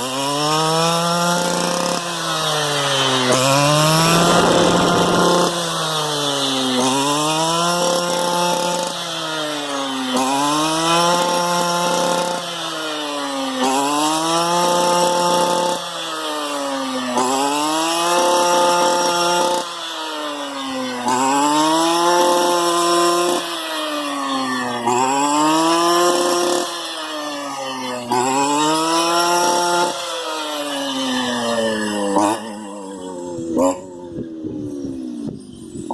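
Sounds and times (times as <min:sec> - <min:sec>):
brush cutter engine revving: 0:00.0 - 0:35.9.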